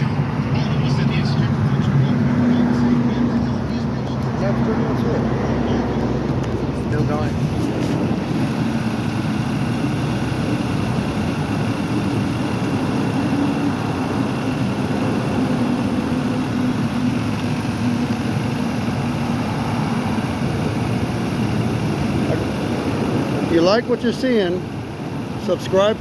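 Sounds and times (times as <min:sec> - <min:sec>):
car engine idling: 0:00.0 - 0:26.0
air conditioning running: 0:03.1 - 0:26.0.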